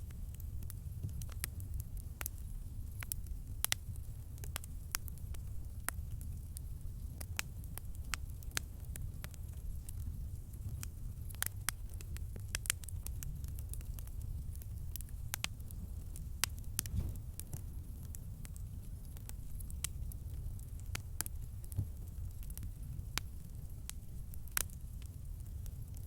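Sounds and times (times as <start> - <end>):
campfire crackling and popping: 0.0 - 26.0
low rumble of flames: 0.0 - 26.0.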